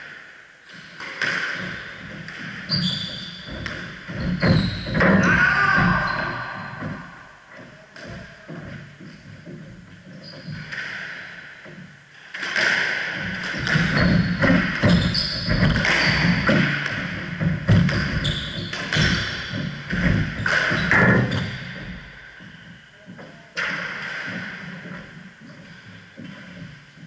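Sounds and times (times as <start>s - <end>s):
squash ball hitting rackets and walls: 0.0s - 22.6s, 23.6s - 27.0s
shoes squeaking on wooden floor: 1.2s - 11.9s, 13.2s - 27.0s.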